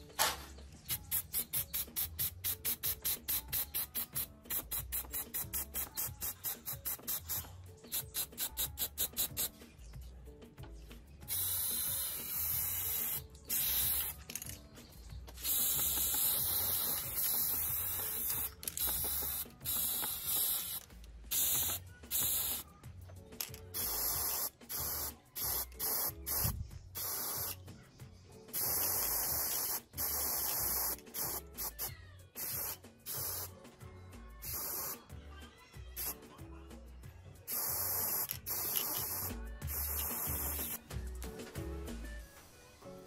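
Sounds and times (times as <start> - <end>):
spray paint hissing: 0.2 - 9.6, 11.2 - 22.8, 23.4 - 27.6, 28.5 - 33.6, 34.4 - 35.1, 36.0 - 36.2, 37.5 - 40.9.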